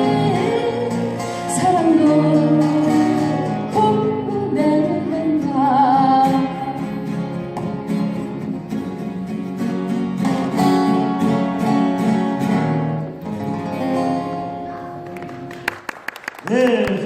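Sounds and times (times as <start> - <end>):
acoustic guitar strumming: 0.0 - 15.7.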